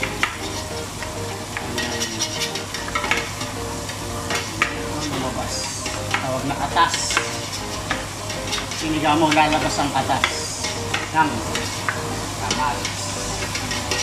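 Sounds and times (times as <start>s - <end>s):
metal ladle scraping a pot: 0.0s - 1.0s, 1.6s - 14.0s
onions sizzling in oil: 0.0s - 14.0s.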